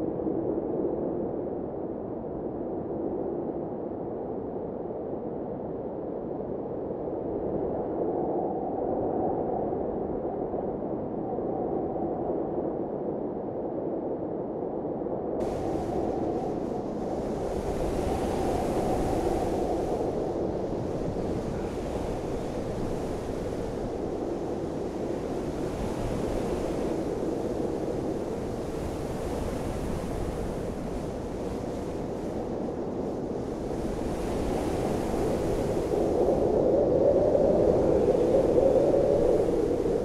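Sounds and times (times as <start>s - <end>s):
rushing wind: 0.0s - 40.0s.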